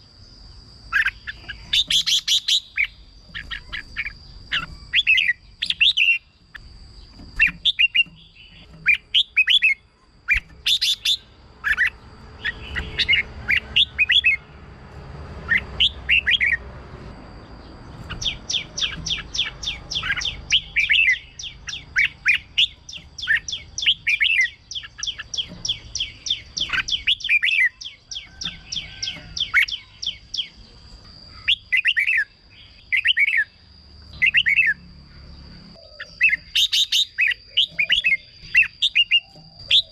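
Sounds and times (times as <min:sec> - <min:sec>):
bird singing warbling phrases: 0:00.5 - 0:14.6, 0:15.4 - 0:16.7, 0:17.5 - 0:39.9.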